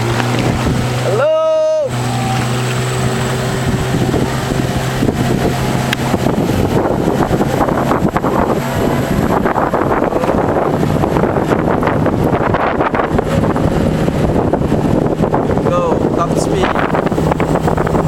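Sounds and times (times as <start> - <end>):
boat engine humming: 0.0 - 18.0
rushing water: 0.0 - 18.0
wind on microphone: 0.0 - 18.0.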